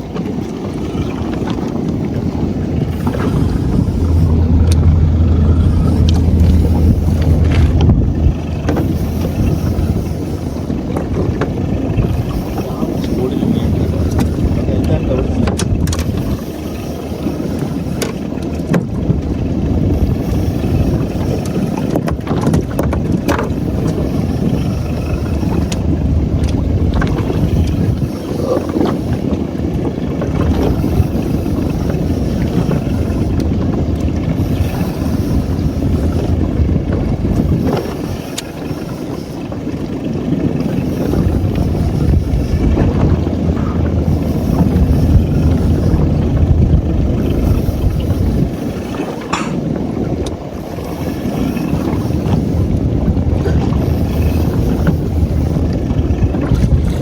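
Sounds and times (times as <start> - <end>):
boat noise: 0.0 - 57.0
wind on microphone: 0.0 - 57.0.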